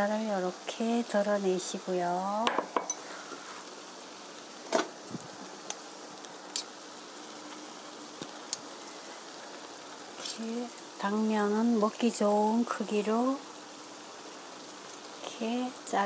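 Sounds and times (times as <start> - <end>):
pot simmering with sizzling hiss: 0.0 - 16.0.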